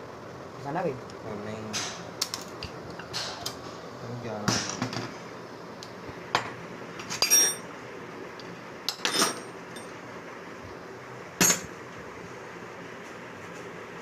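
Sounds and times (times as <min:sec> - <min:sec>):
low workshop hum: 0:00.0 - 0:14.0.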